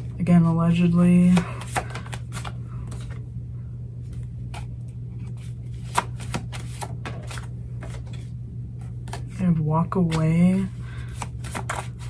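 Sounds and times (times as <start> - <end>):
cards shuffling: 0.0 - 3.2, 4.0 - 9.4, 10.0 - 12.0
low hum: 0.0 - 12.0.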